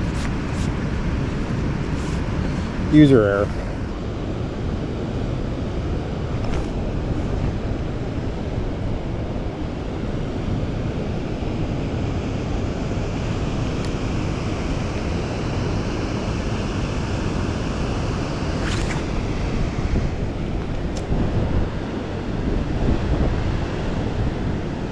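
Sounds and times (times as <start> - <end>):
wind buffeting microphone: 0.0 - 15.2, 18.2 - 24.9.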